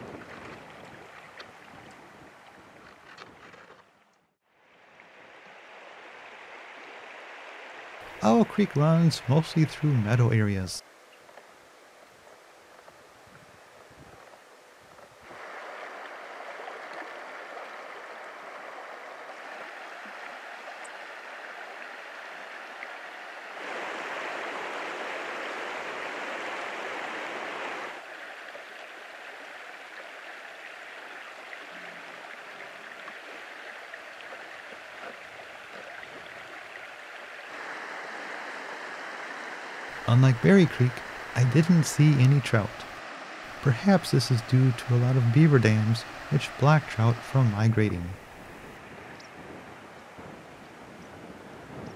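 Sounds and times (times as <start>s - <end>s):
creek flowing over rocks: 3.8s - 11.9s, 15.2s - 50.3s.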